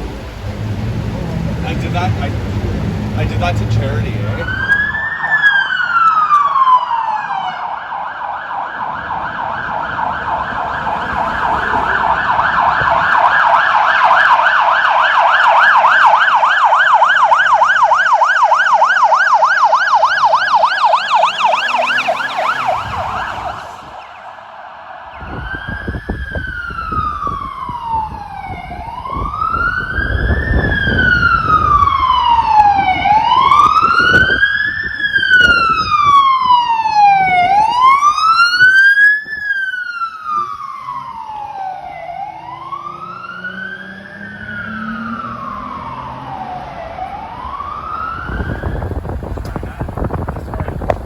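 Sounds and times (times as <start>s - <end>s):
police siren wailing and yelping: 0.0s - 50.9s
low traffic rumble: 0.0s - 51.0s.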